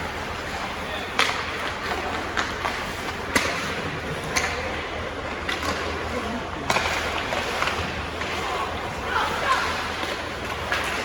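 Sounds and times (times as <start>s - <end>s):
skates scraping ice: 0.0s - 11.0s
hockey sticks and puck clacking: 0.1s - 11.0s.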